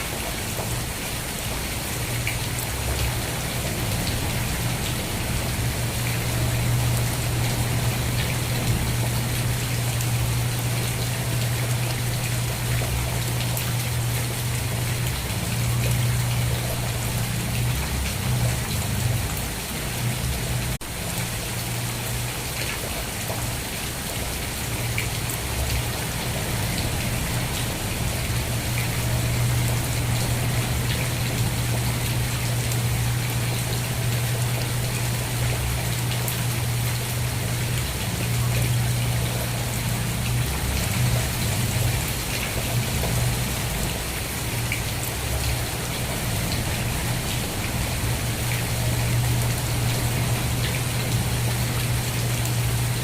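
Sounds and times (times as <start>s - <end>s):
steady rain falling: 0.0s - 53.0s
constant low hum: 1.8s - 53.0s.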